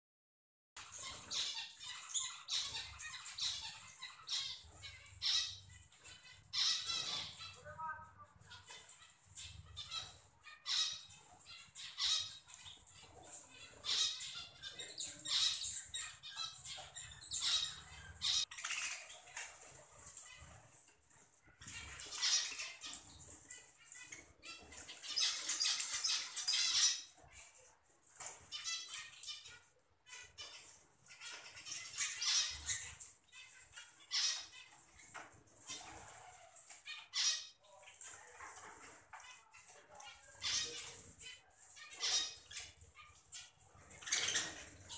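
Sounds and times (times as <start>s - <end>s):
budgerigars chattering: 0.8s - 7.6s, 8.3s - 19.6s, 21.7s - 27.2s, 28.6s - 39.0s, 39.6s - 44.9s.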